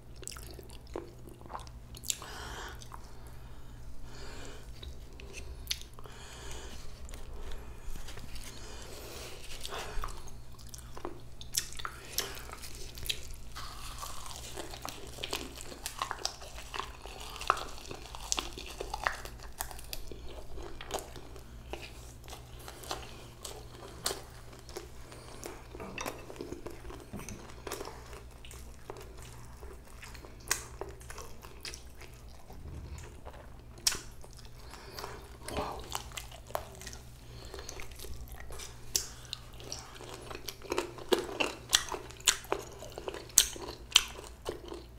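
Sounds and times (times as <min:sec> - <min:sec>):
chewing and crunching: 0:00.0 - 0:03.5, 0:04.1 - 0:44.9
steady low hum: 0:00.0 - 0:44.9.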